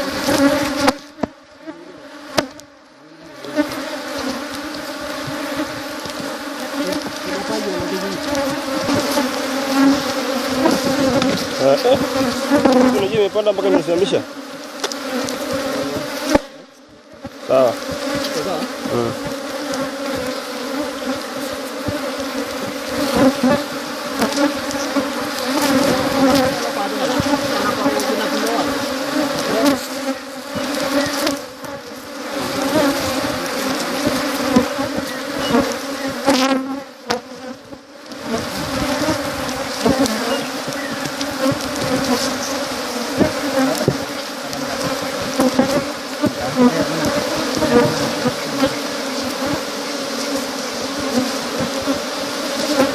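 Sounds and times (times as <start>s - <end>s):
honeybees buzzing: 0.0s - 52.9s.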